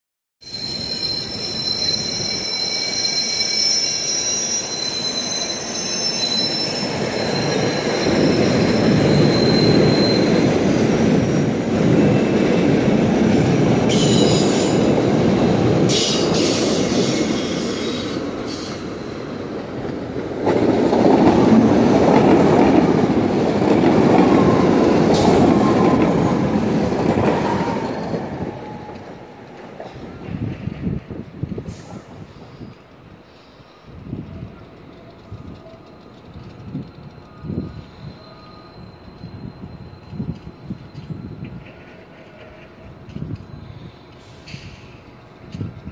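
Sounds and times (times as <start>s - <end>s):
train wheels squealing: 0.4s - 20.1s, 22.5s - 31.0s, 31.6s - 45.9s
train rumbling past: 0.6s - 45.9s.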